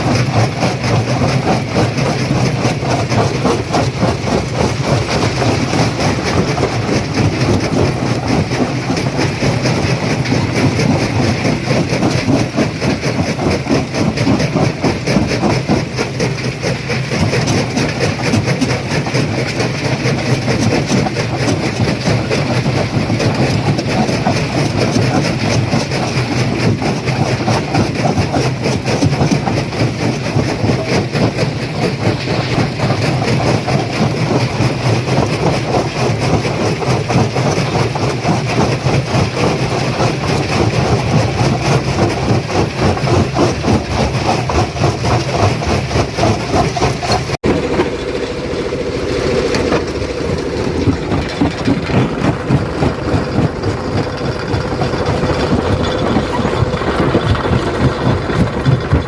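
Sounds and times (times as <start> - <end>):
stone crusher machine hum: 0.0 - 59.0.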